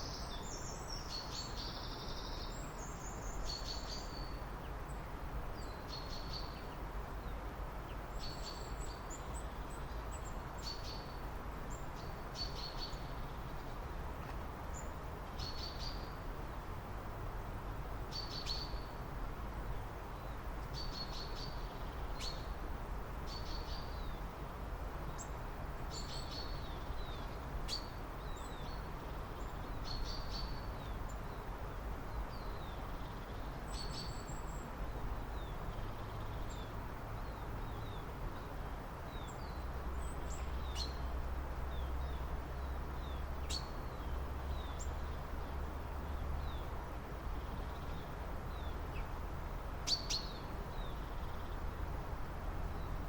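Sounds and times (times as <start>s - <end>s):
small birds chirping: 0.0s - 16.7s, 18.0s - 53.0s.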